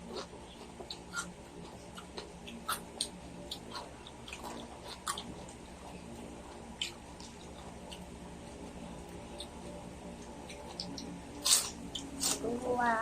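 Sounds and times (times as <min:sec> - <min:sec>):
chewing crispy fried pork: 0:00.0 - 0:12.6.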